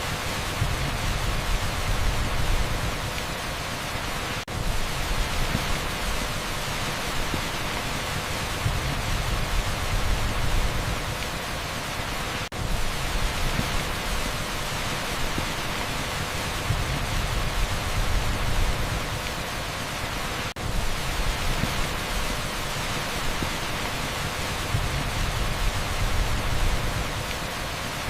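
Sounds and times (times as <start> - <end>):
heavy rain on asphalt: 0.0 - 28.0.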